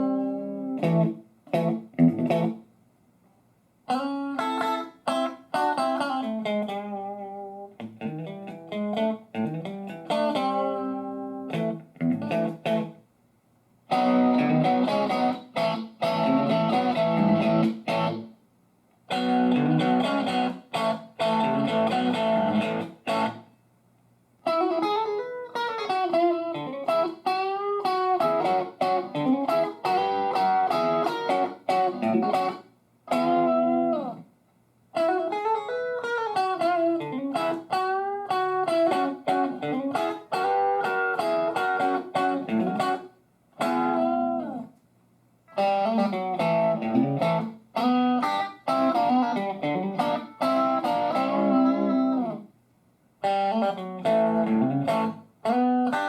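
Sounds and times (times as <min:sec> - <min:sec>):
electric guitar playing: 0:00.0 - 0:02.6, 0:03.9 - 0:13.0, 0:13.9 - 0:18.3, 0:19.1 - 0:23.4, 0:24.4 - 0:34.2, 0:34.9 - 0:44.7, 0:45.5 - 0:52.5, 0:53.2 - 0:56.0.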